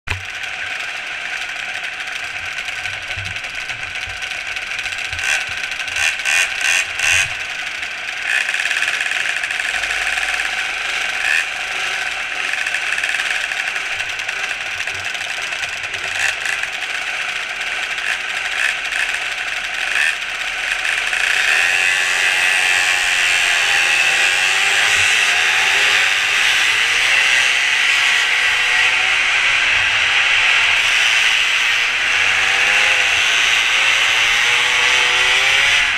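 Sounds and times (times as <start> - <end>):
mini moto engines buzzing: 0.1 - 35.9.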